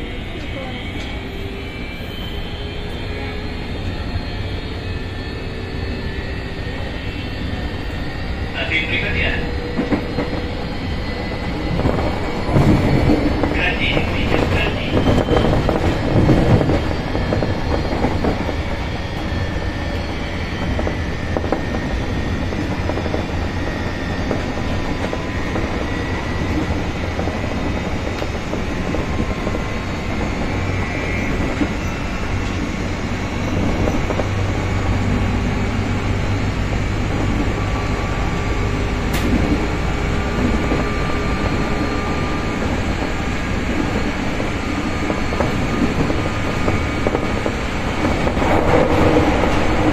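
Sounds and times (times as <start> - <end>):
wheels rumbling on rail: 0.0 - 49.9.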